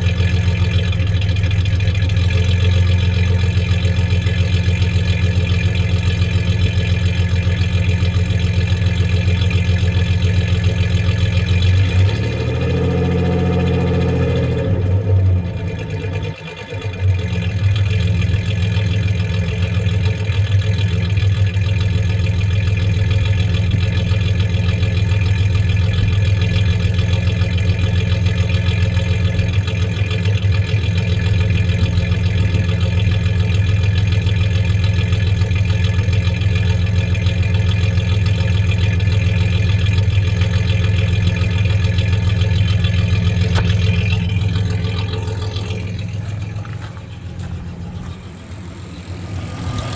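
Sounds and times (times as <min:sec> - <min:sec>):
misfiring engine idling: 0:00.0 - 0:49.9.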